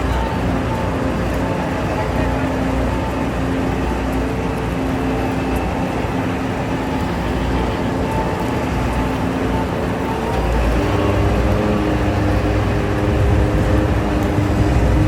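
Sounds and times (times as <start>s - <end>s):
combine harvester engine drone: 0.0s - 15.0s.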